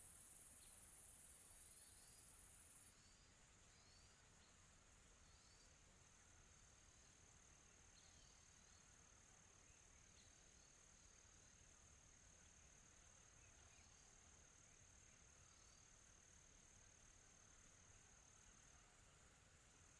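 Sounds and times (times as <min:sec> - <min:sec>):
faint cricket chirps: 0:00.0 - 0:19.9.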